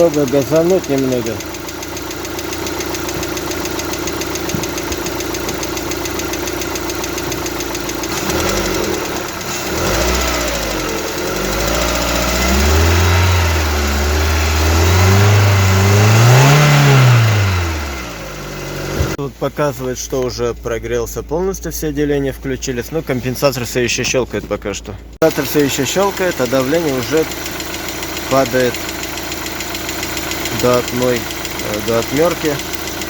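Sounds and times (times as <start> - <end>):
petrol engine idling and revving: 0.0 - 19.2, 25.2 - 33.0.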